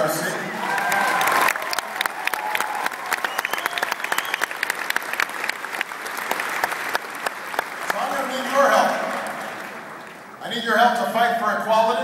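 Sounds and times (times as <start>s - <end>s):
audience applauding: 0.5s - 10.4s.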